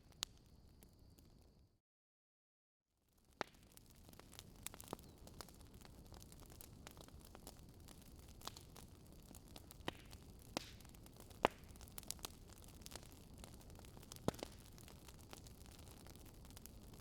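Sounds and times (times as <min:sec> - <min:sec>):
wood fire crackling: 0:00.0 - 0:01.5, 0:03.2 - 0:17.0.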